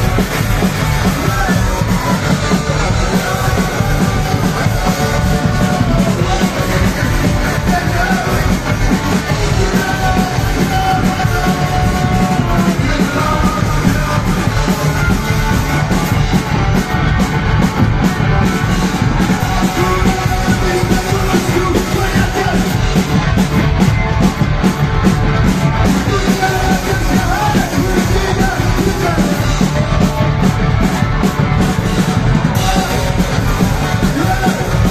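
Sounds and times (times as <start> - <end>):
rock band playing live: 0.0 - 34.9.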